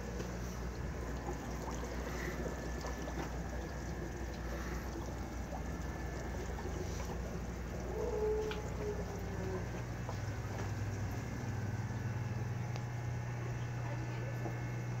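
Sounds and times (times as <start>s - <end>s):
water trickling: 0.0s - 14.9s
small pump humming: 0.0s - 15.0s.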